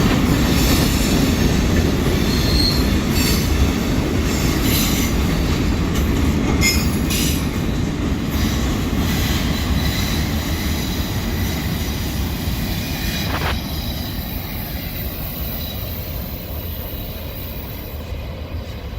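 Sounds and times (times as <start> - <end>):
freight train cars rumbling: 0.0 - 18.9
train clank: 0.0 - 18.9.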